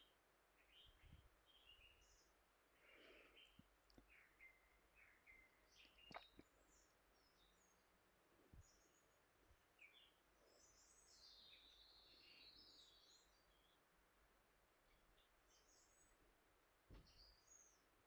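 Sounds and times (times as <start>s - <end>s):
faint bird chirps: 0.0s - 14.0s, 14.8s - 18.0s.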